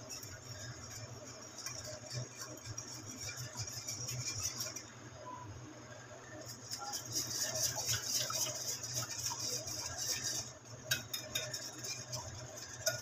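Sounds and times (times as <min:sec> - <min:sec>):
whisk clicking against glass bowl: 0:00.0 - 0:04.9, 0:06.4 - 0:13.0.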